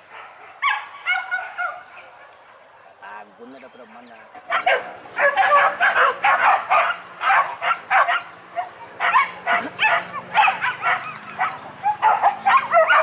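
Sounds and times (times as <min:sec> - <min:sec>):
dogs barking: 0:00.0 - 0:02.7, 0:04.4 - 0:13.0.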